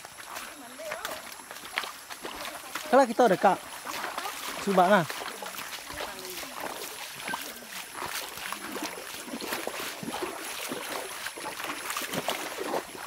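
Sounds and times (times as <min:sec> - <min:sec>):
feet wading through water: 0:00.0 - 0:13.0.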